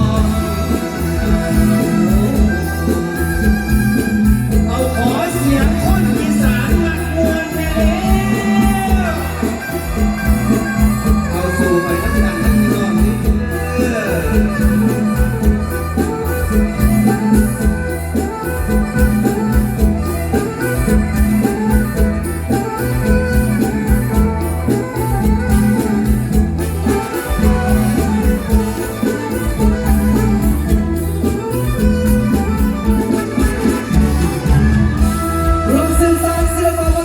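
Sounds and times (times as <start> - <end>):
amplified instruments playing: 0.0 - 37.0
steady drum beat: 0.0 - 37.0.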